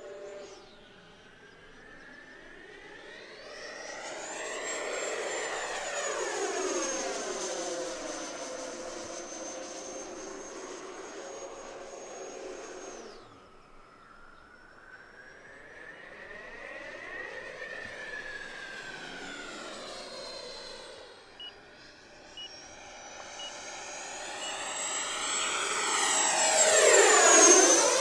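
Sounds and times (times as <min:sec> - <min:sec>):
ducted-fan model jet whine: 0:00.0 - 0:28.0.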